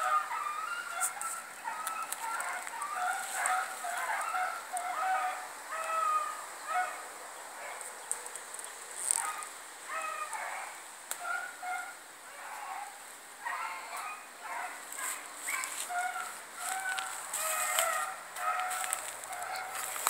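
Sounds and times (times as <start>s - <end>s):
hounds baying: 0.0s - 7.9s, 9.2s - 20.0s.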